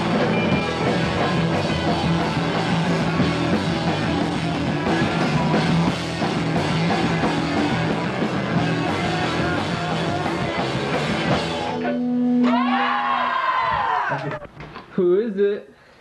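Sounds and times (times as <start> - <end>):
punk rock music: 0.0 - 12.8.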